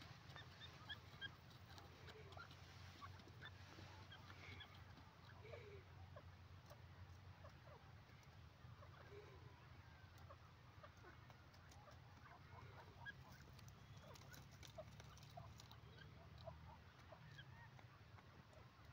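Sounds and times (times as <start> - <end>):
bird calls: 0.0 - 18.9.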